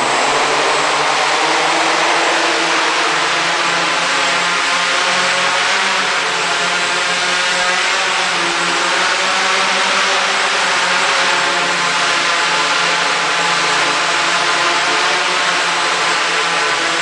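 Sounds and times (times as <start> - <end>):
quadcopter motors buzzing: 0.0 - 17.0.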